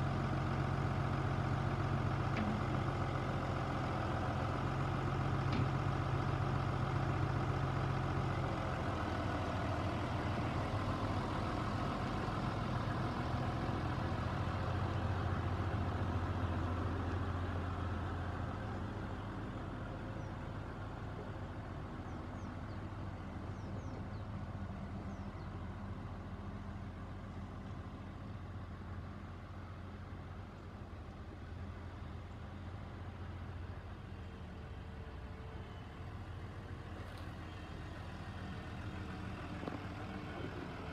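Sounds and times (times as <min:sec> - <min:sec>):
tractor diesel engine driving: 0:00.0 - 0:40.9.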